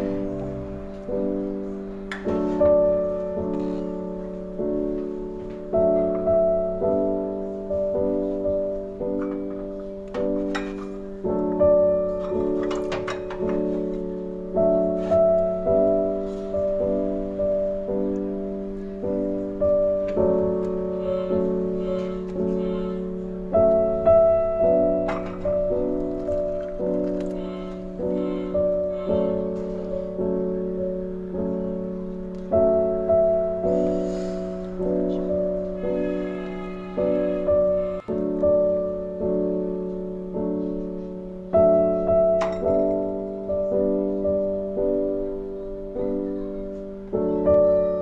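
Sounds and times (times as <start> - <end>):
slow piano chords: 0.0 - 48.0.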